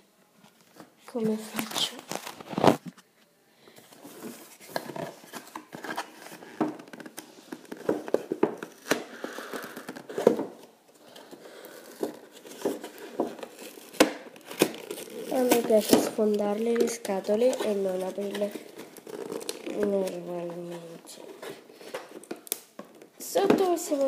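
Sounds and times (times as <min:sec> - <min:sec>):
cardboard tearing and crumpling: 0:01.3 - 0:02.8, 0:04.1 - 0:22.6.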